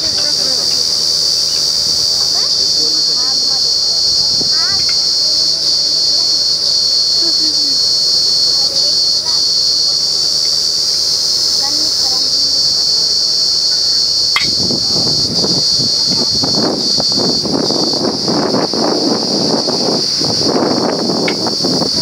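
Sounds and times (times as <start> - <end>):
insects chorus: 0.0 - 22.0
wind buffeting microphone: 0.0 - 22.0.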